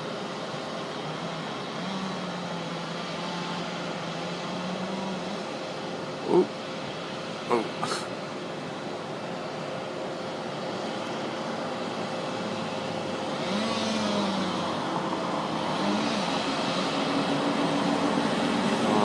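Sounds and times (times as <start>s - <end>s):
bus engine: 0.0s - 19.0s
street traffic: 0.0s - 19.0s.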